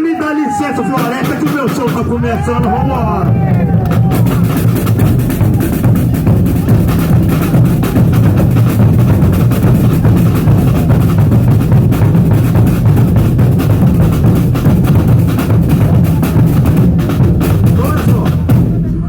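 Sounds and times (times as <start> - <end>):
bass drum beat: 0.0 - 19.0
percussion-driven band music: 0.0 - 19.0.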